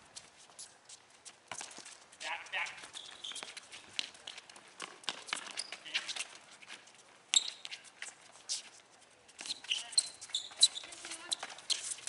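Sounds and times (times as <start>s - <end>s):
shoe squeaks: 0.2s - 12.0s.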